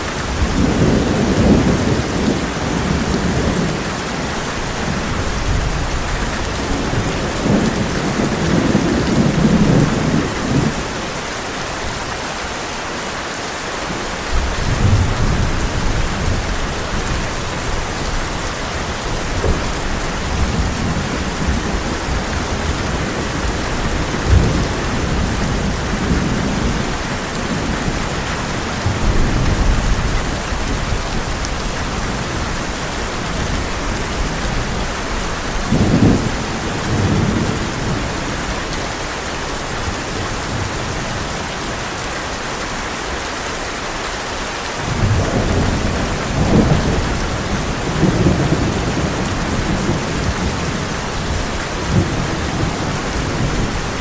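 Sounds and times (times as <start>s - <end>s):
heavy rain on a tin roof: 0.0s - 54.0s
thunder rumbles: 0.2s - 11.2s, 14.3s - 39.0s, 44.8s - 54.0s.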